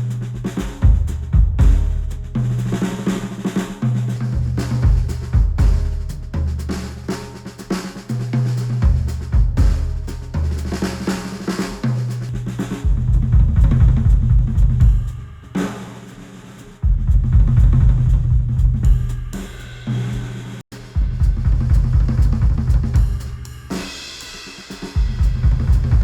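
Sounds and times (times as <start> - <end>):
instrumental music with drums and bass: 0.0 - 26.0.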